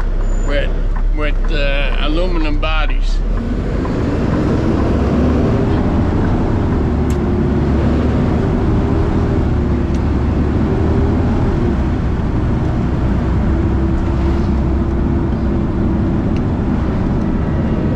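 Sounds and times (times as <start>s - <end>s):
vehicle engine and road noise: 0.0s - 17.9s.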